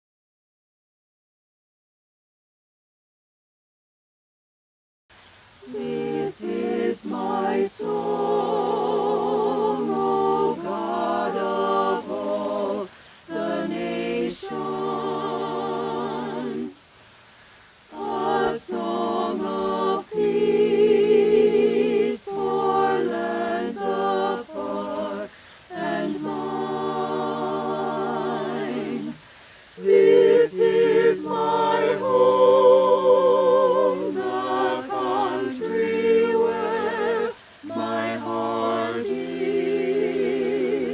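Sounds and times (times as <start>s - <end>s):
group singing a cappella: 5.6s - 17.0s, 17.8s - 40.9s.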